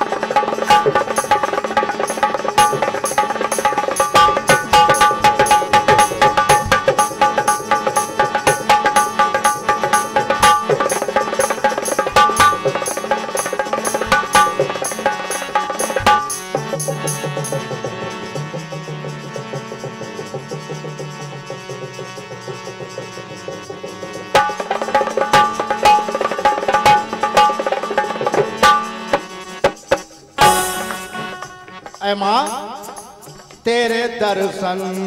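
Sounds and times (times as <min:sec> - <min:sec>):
harmonium and keyboard melody: 0:00.0 - 0:34.9
fast hand-drum percussion: 0:00.0 - 0:35.0.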